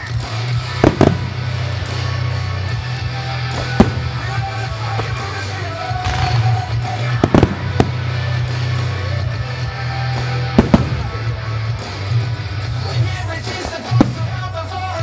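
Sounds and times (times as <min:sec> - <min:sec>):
loud music: 0:00.0 - 0:15.0
fireworks bursting: 0:00.6 - 0:15.0.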